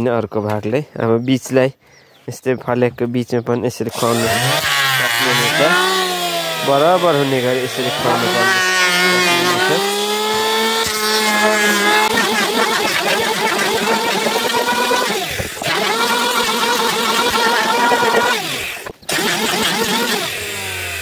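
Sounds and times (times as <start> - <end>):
electric hand planer cutting wood: 3.9 - 21.0.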